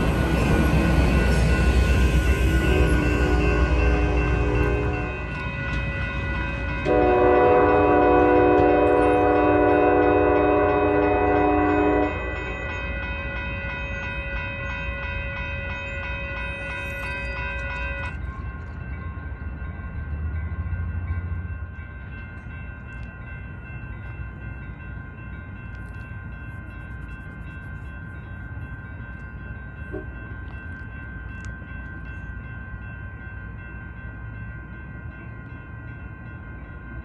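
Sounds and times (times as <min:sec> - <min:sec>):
distant diesel locomotive rumble: 0:00.0 - 0:37.0.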